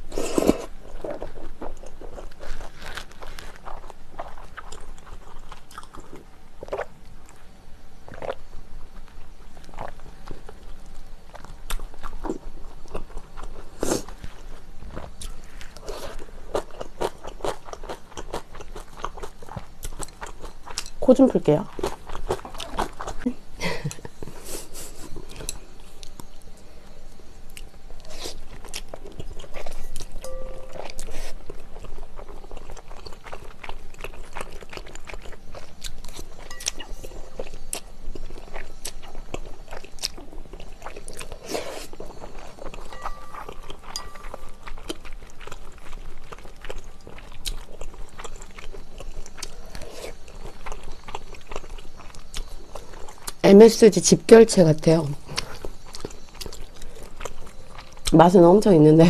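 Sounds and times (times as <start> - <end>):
slurping and chewing noodles: 0.0 - 6.9, 8.1 - 21.0, 21.7 - 23.3, 27.5 - 53.4, 55.2 - 58.2.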